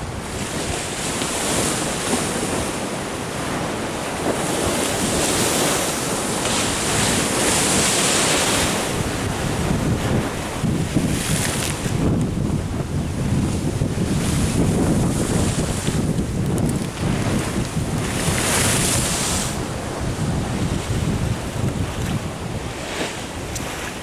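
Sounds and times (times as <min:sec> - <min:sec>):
wind gusting on microphone: 0:00.0 - 0:24.0.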